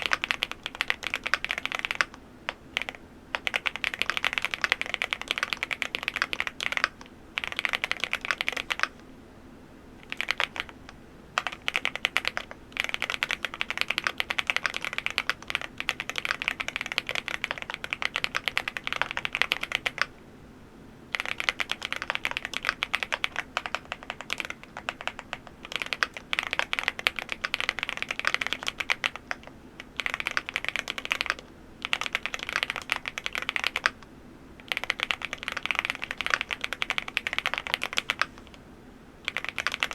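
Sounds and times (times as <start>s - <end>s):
mechanical keyboard typing: 0.0s - 8.9s, 10.0s - 20.1s, 21.1s - 34.0s, 34.6s - 38.6s, 39.2s - 39.9s.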